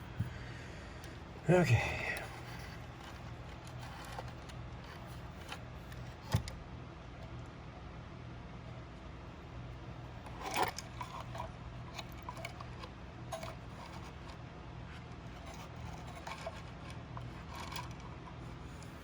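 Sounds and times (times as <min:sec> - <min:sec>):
light clicks and scrapes: 0:00.0 - 0:06.6, 0:10.1 - 0:19.0
steady low hum: 0:00.0 - 0:19.0.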